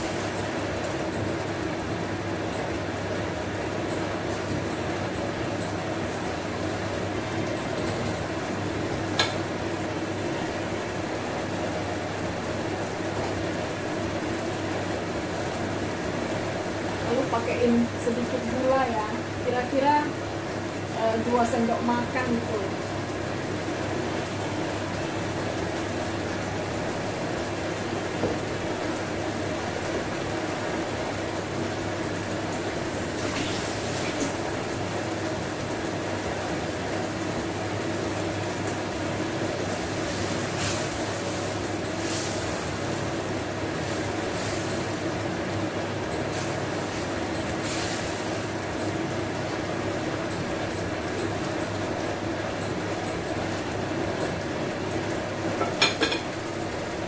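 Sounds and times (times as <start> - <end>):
sauce simmering in a pan: 0.0 - 57.0.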